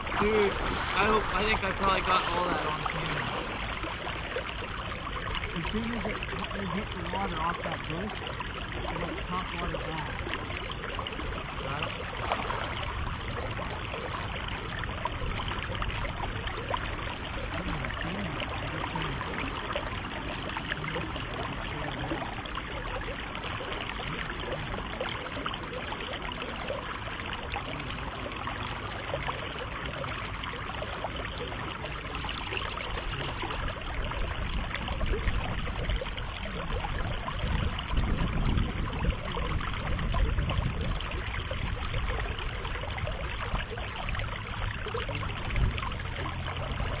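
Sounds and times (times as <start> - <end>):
river water running: 0.0 - 47.0.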